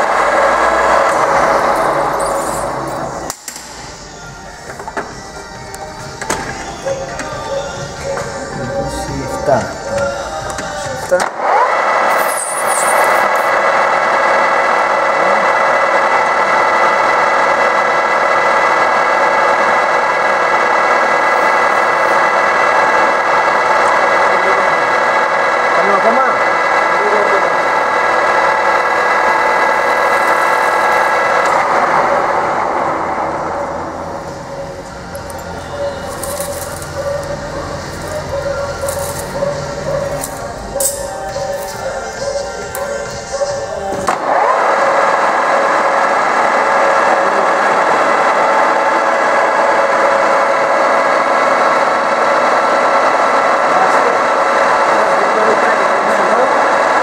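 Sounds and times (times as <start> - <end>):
metal lathe whining: 0.0 - 57.0.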